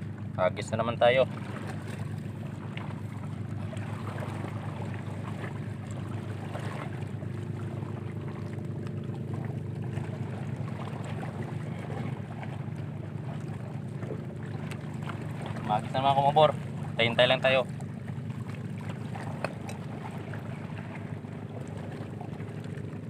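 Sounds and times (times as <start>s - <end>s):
sea surf on rocky shore: 0.0s - 23.0s.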